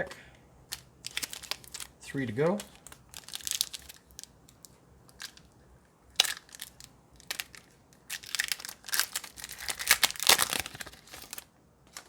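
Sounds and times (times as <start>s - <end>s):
foil wrapper crinkling and tearing: 0.7s - 5.5s, 6.2s - 12.0s.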